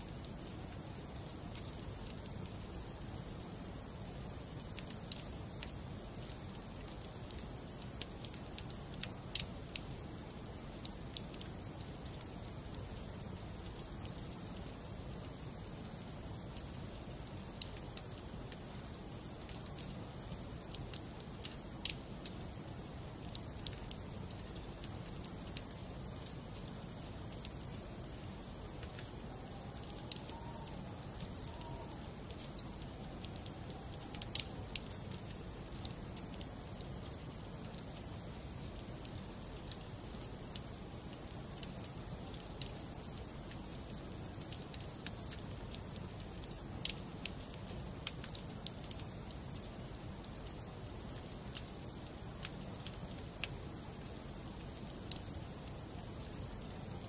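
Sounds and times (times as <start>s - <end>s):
low rumble of flames: 0.0s - 57.0s
wood fire crackling: 0.0s - 57.0s
burning logs popping: 0.2s - 57.0s.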